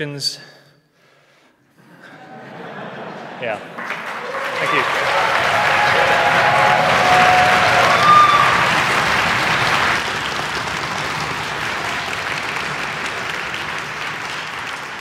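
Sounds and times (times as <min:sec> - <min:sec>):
audience applauding: 0:02.2 - 0:15.0.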